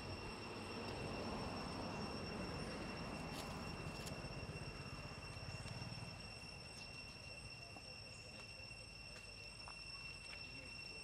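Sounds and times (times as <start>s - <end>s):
high-pitched insect drone: 0.0s - 11.0s
low outdoor background noise: 0.0s - 11.0s.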